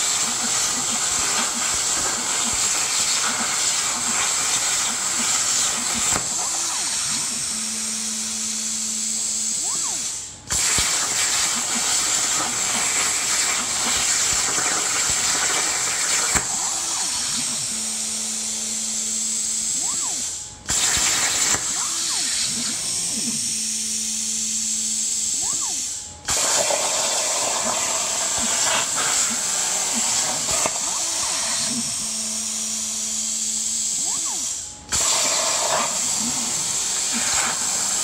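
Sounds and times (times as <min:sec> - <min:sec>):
gantry motors whining: 0:00.0 - 0:38.0
plasma cutter arc hissing: 0:00.0 - 0:38.0.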